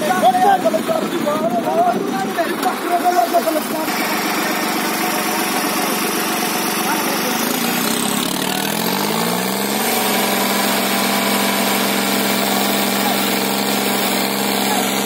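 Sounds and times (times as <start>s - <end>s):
diesel tractor engines running: 0.0s - 15.0s
engine revving up: 2.7s - 15.0s.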